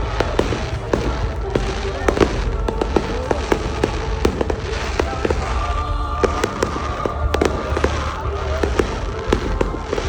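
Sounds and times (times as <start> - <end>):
fireworks cracks and pops: 0.0 - 10.0
steady low rumble: 0.0 - 10.0.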